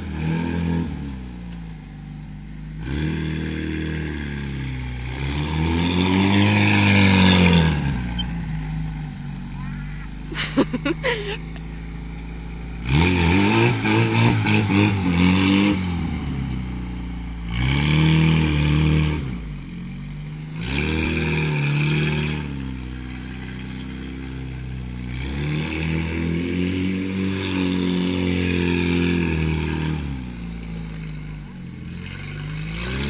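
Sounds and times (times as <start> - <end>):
buggy engine revving: 0.0 - 33.0.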